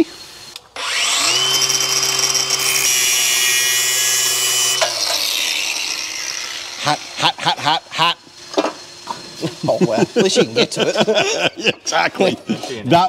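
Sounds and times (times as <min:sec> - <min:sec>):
angle grinder cutting steel: 0:00.0 - 0:12.8.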